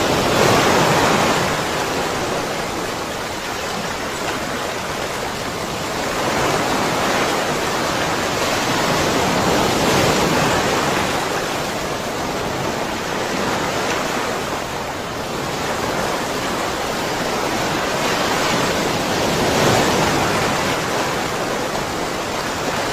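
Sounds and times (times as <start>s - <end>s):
rushing water: 0.0s - 22.9s.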